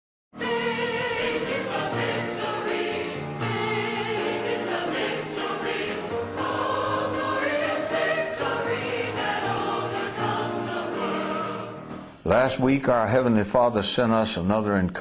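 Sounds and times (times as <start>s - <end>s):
choir singing: 0.4s - 12.8s
musical accompaniment: 0.4s - 13.6s.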